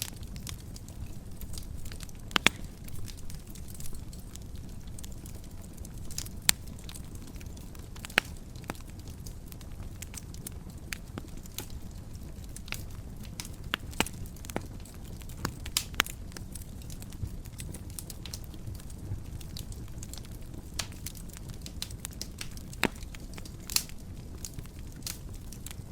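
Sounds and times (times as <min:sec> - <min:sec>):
low rumble of burning fire: 0:00.0 - 0:25.9
wood fire crackling: 0:00.0 - 0:25.9.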